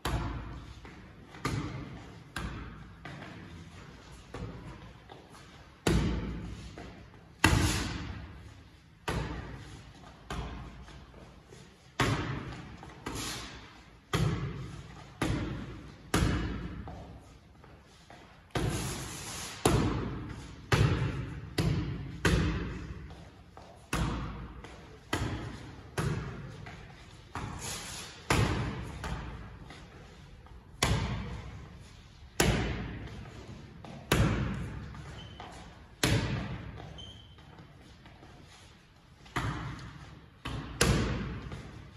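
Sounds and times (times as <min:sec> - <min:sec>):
boxing gloves smacking mitts: 0:00.0 - 0:17.1, 0:18.4 - 0:36.9, 0:39.2 - 0:41.9.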